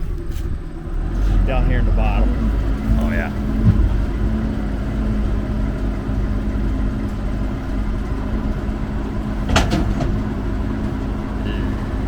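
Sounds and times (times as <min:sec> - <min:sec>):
machinery engine humming: 0:00.0 - 0:12.0.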